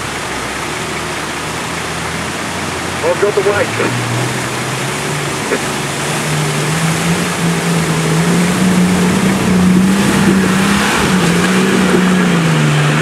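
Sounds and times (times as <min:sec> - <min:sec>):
river rapids rushing: 0:00.0 - 0:13.0
vehicle engine under load: 0:00.0 - 0:13.0
water pushed by vehicle: 0:00.0 - 0:13.0.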